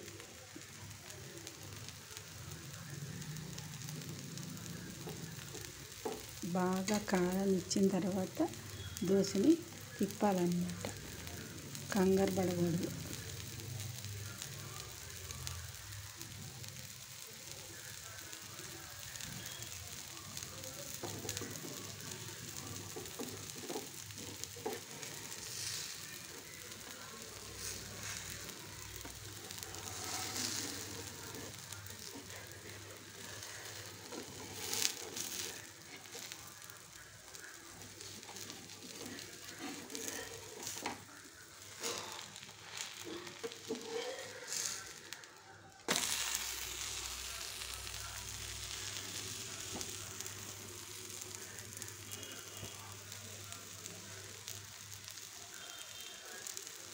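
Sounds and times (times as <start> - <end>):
batter sizzling on a griddle: 0.0 - 56.9.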